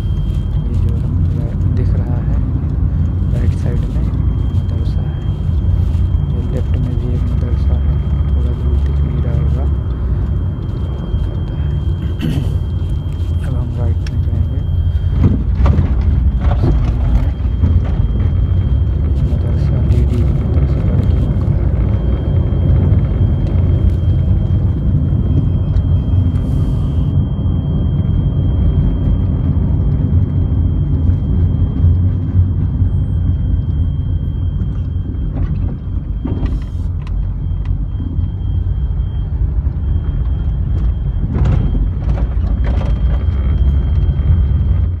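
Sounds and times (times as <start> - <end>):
car cabin road rumble: 0.0 - 45.0
wind noise: 0.0 - 45.0.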